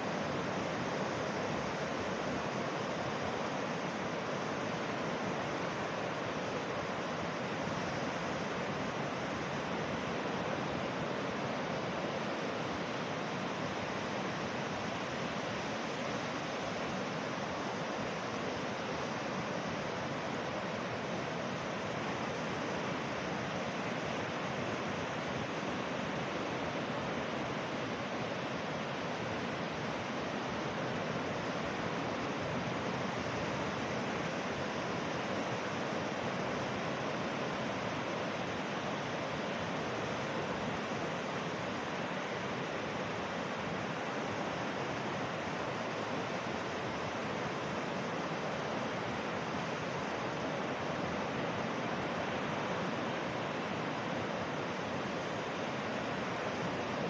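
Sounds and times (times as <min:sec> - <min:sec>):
water rushing: 0:00.0 - 0:57.0.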